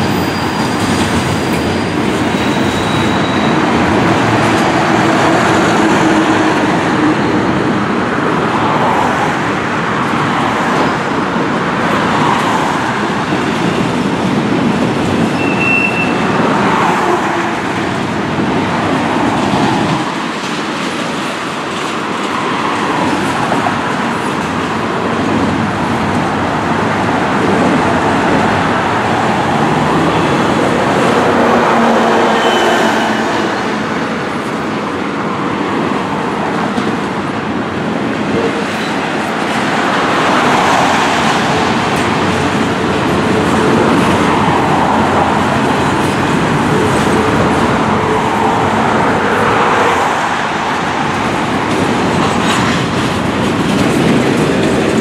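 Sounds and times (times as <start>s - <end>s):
cars passing on road: 0.0s - 55.0s
steel wheels rumbling on rail: 0.0s - 55.0s.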